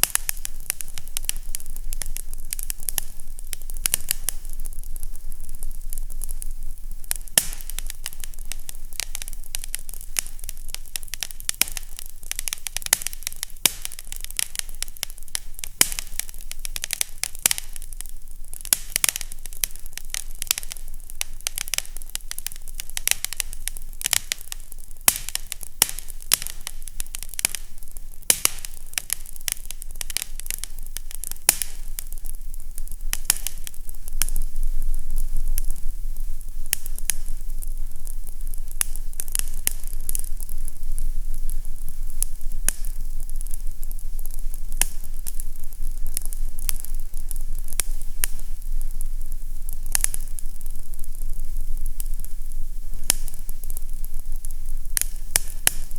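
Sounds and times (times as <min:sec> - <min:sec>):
fireplace crackling: 0:00.0 - 0:55.9.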